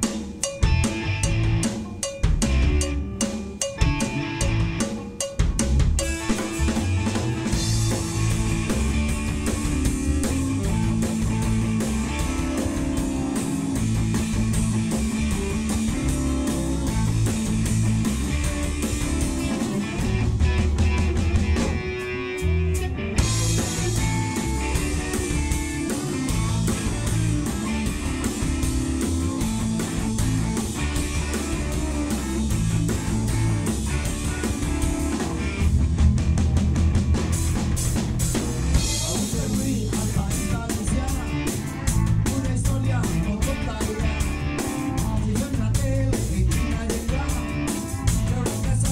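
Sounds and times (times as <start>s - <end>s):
drum kit playing: 0.0s - 48.9s
guitar: 0.0s - 48.9s
rock music: 0.0s - 48.9s.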